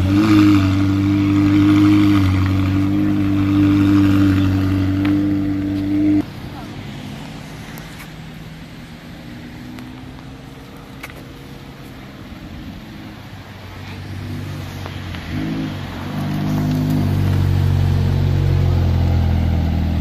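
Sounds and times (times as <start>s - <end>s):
car engine low hum: 0.0s - 20.0s.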